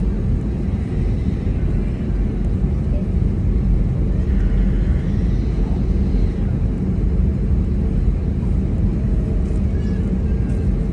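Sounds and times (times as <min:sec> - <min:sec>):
aircraft cabin rumble: 0:00.0 - 0:10.9.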